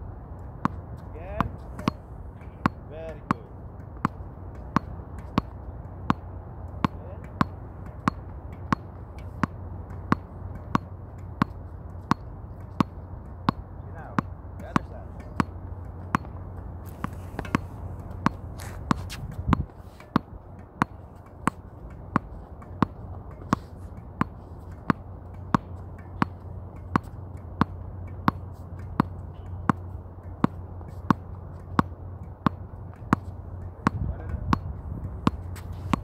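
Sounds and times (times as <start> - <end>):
steady low hum: 0.0 - 36.0
tennis ball bouncing on court: 0.4 - 36.0.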